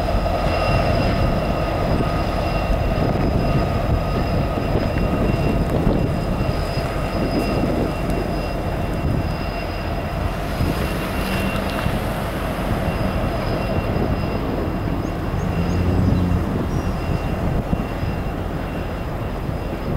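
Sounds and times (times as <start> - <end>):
high-pitched whine: 0.0 - 19.9
locomotive engine rumble: 0.0 - 19.9.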